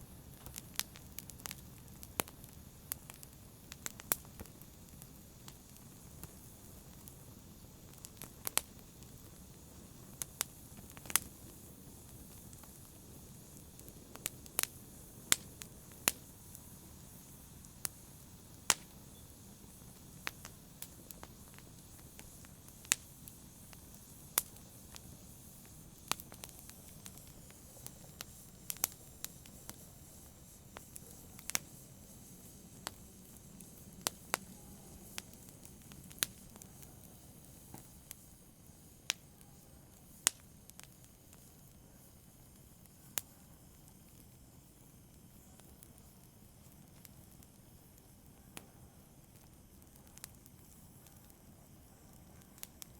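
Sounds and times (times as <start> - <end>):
campfire pops and crackles: 0.0 - 52.9
low fire hiss: 0.0 - 52.9.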